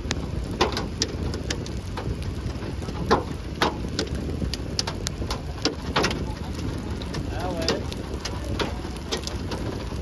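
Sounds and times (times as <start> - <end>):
hailstones knocking on car: 0.0 - 10.0
rain and wind rushing: 0.0 - 10.0.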